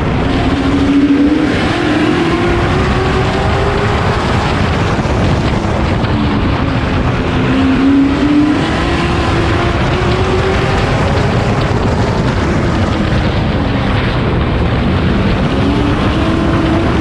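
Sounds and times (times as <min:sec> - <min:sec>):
race truck engine running hard: 0:00.0 - 0:17.0.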